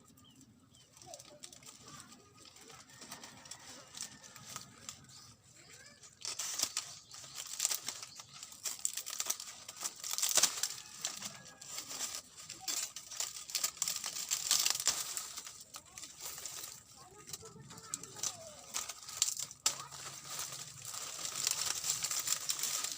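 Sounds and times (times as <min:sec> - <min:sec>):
thatch rustling and tearing: 0:00.8 - 0:22.9.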